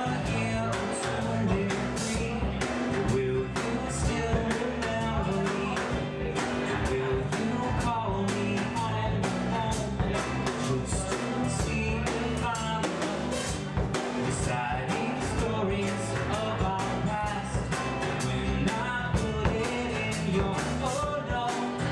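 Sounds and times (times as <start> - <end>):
bass guitar: 0.0 - 21.9
drum kit steady beat: 0.0 - 21.9.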